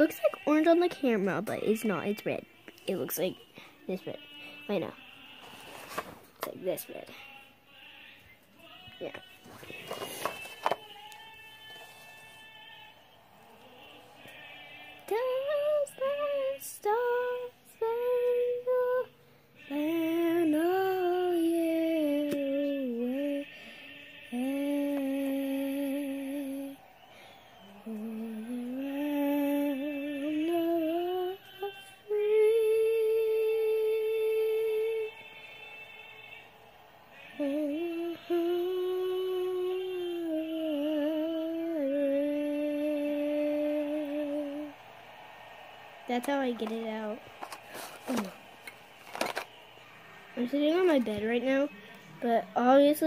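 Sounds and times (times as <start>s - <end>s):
girl singing wordless tune: 0.0s - 7.4s, 8.6s - 12.4s, 14.2s - 36.4s, 37.1s - 44.7s, 46.1s - 47.2s, 50.4s - 53.0s.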